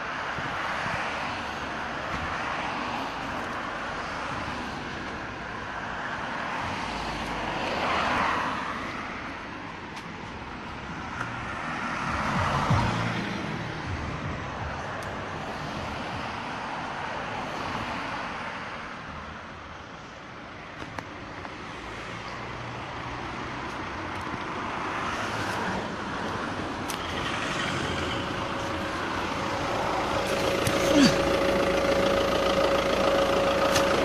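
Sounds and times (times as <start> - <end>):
passing road traffic: 0.0 - 34.0.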